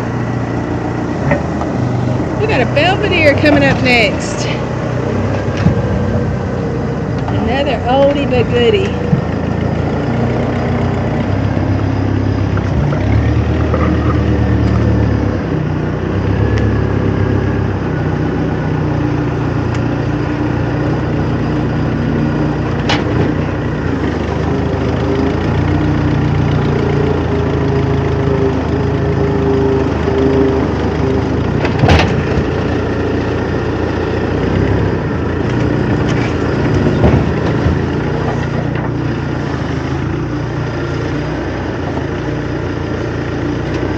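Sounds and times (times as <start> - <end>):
vehicle engine idling: 0.0 - 43.9.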